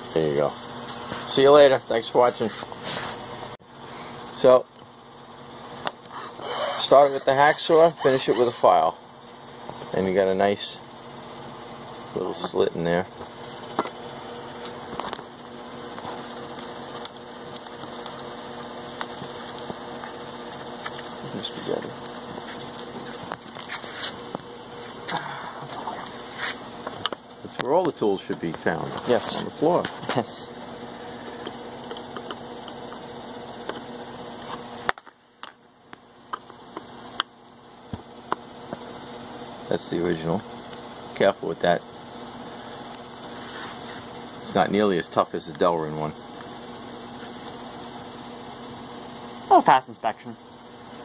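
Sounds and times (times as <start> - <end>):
machine hum: 0.0 - 51.0.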